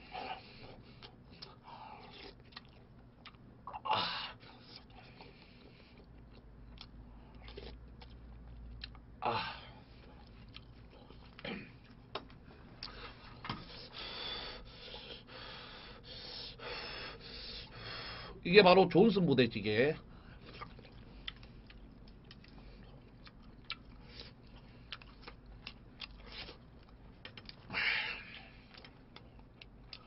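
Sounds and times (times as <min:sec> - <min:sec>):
man chewing: 0:00.0 - 0:18.4, 0:20.0 - 0:30.0.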